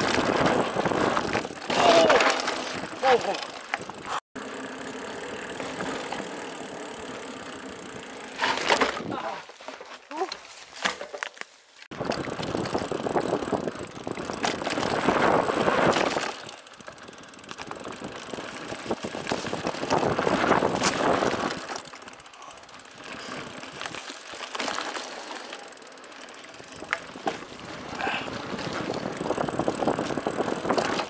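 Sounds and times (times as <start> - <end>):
tyres rolling over dirt: 0.0 - 10.0, 11.9 - 31.0
bike rattling over bumps: 0.0 - 31.0.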